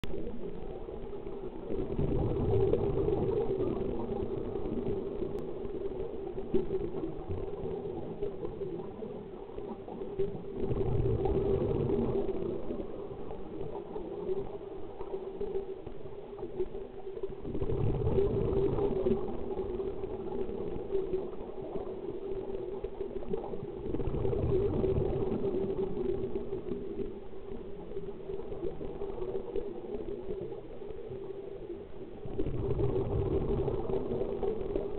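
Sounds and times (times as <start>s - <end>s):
exhaled bubbles gurgling underwater: 0.0s - 34.9s.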